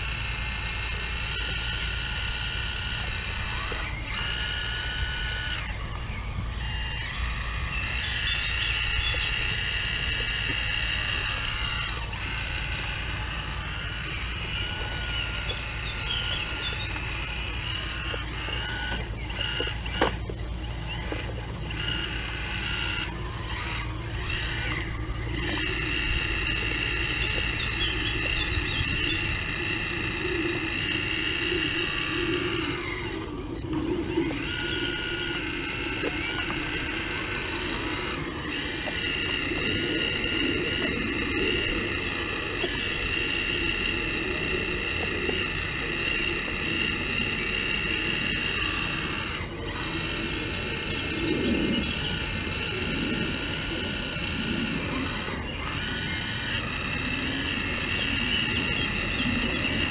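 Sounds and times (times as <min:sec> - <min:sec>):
excavator hydraulics whining: 0:00.0 - 0:59.9
steady low hum: 0:00.0 - 0:59.9.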